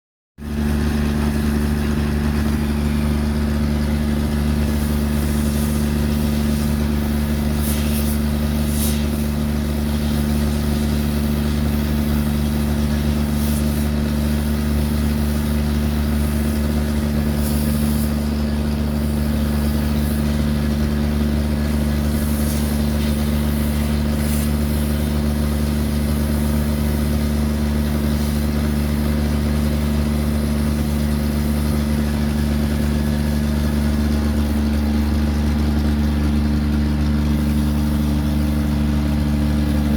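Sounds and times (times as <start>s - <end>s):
excavator diesel engine running: 0.4s - 39.9s.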